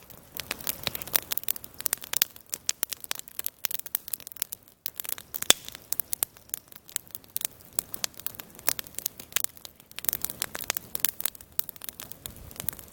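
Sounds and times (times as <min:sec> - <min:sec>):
campfire crackling and popping: 0:00.0 - 0:12.9.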